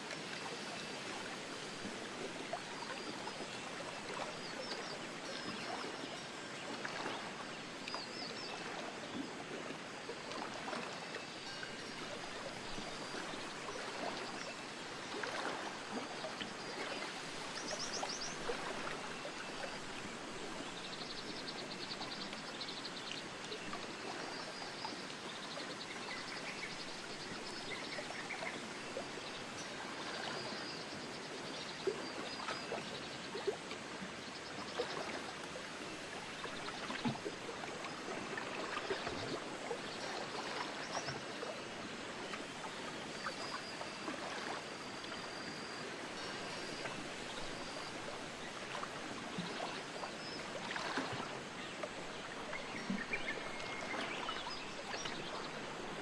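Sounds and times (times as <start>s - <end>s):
rushing nature ambience: 0.0s - 56.0s.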